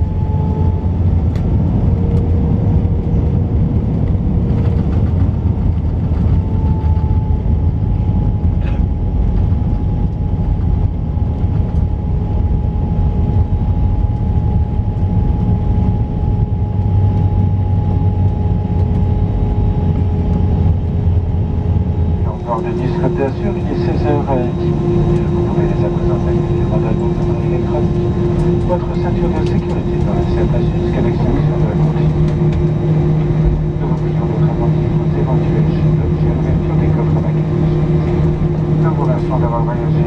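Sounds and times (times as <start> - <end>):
jet engines whining: 0.0 - 40.0
loud low cabin rumble: 0.0 - 40.0.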